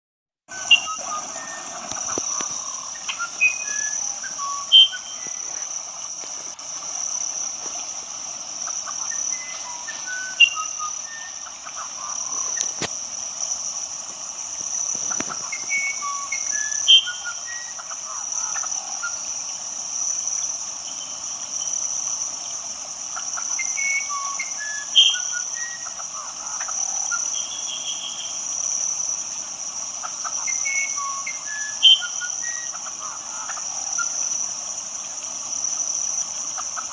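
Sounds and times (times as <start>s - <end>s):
frog chirps: 0.5s - 36.9s
insects pulsing trill: 0.5s - 36.9s.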